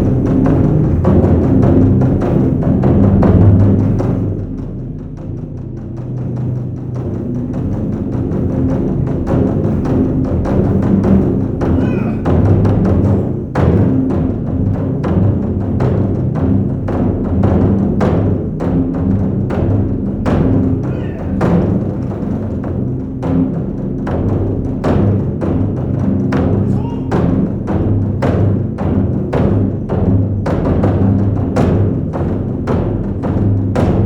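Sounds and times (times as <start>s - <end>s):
music with drums and percussion: 0.0s - 34.0s.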